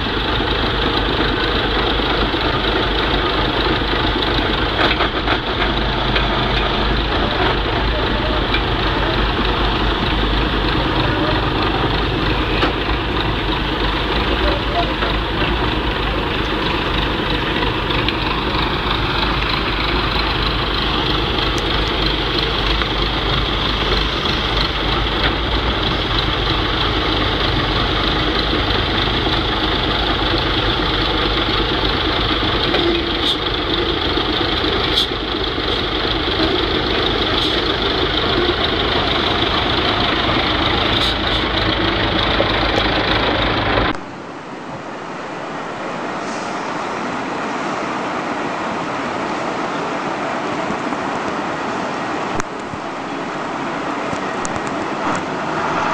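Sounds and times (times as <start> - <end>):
heavy vehicle engine running: 0.0 - 44.2, 54.2 - 55.9
dull vehicle sound: 0.0 - 44.5, 53.8 - 55.9.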